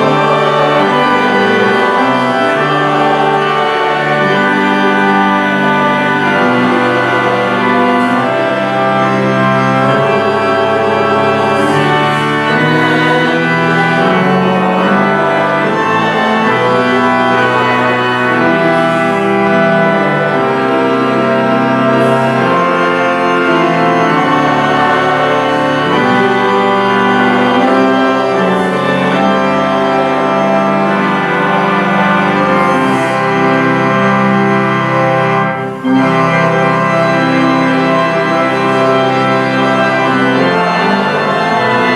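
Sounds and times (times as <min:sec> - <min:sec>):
church organ playing chords: 0:00.0 - 0:41.9.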